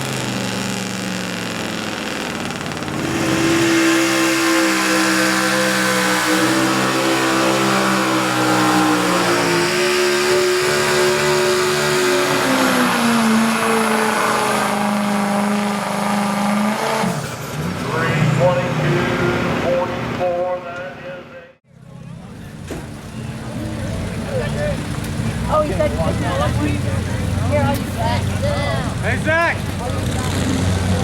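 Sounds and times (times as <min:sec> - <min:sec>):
truck engine revving under load: 0:00.0 - 0:20.2, 0:21.8 - 0:31.0.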